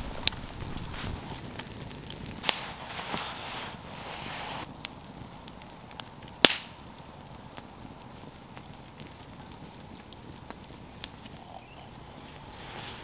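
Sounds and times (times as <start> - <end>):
burning logs popping: 0.0 - 13.0
campfire crackling: 0.0 - 13.0.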